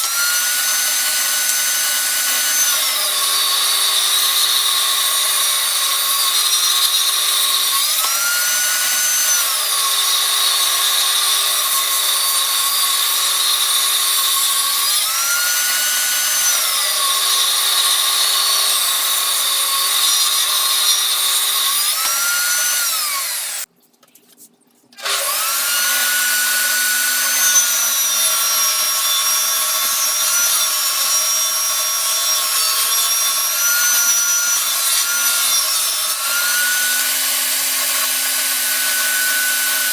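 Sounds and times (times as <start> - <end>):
power tool cutting wood: 0.0 - 23.7, 25.0 - 39.9.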